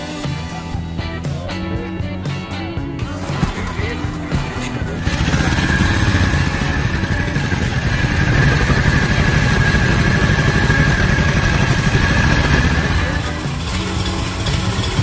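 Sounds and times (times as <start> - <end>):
motorcycle engine idling: 1.8 - 15.0.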